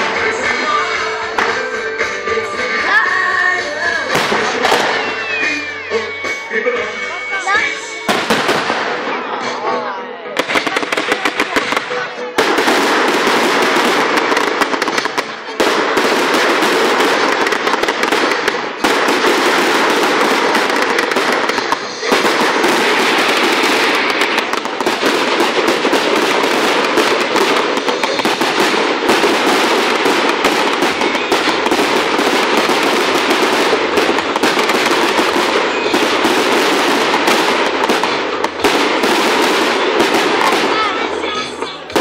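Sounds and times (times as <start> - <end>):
fireworks crackling and popping: 0.0 - 9.6, 10.4 - 42.0.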